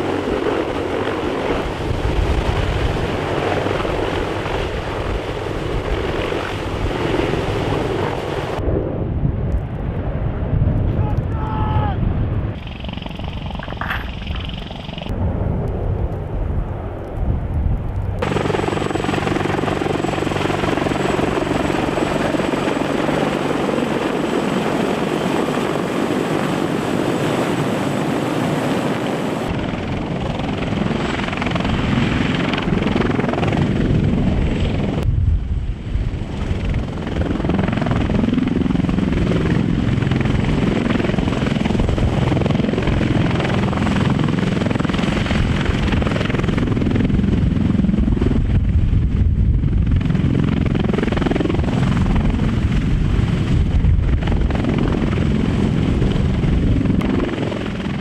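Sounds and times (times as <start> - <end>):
helicopter rotor and turbine noise: 0.0 - 58.0.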